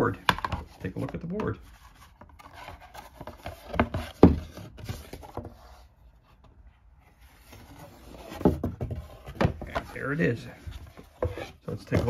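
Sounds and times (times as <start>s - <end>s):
cardboard board rustling and scraping: 0.0s - 12.0s.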